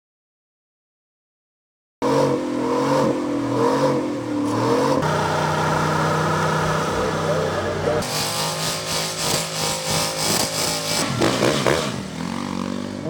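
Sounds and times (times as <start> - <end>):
car engine revving: 2.0 - 13.0.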